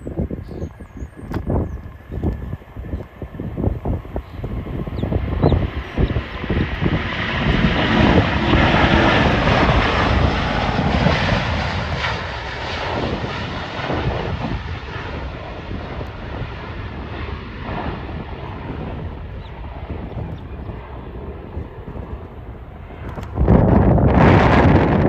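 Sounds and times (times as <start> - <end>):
jet engines at takeoff thrust: 0.0 - 25.0
wind buffeting microphone: 0.0 - 25.0.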